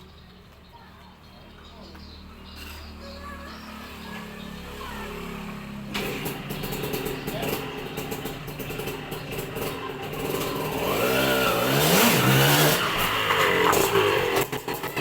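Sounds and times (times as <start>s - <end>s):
two-stroke engine idling and revving: 0.0s - 15.0s.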